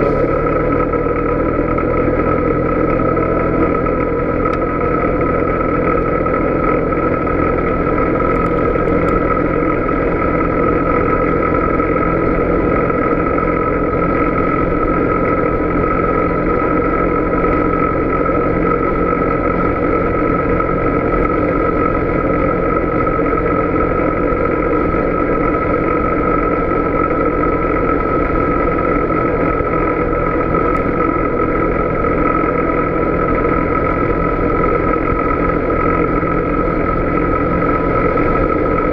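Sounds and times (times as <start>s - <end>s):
atv engine running: 0.0s - 38.9s
steady high whine: 0.0s - 38.9s.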